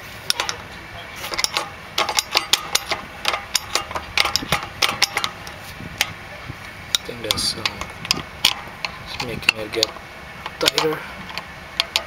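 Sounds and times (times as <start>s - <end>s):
brake adjuster metal clicks: 1.3s - 6.2s, 6.9s - 12.0s.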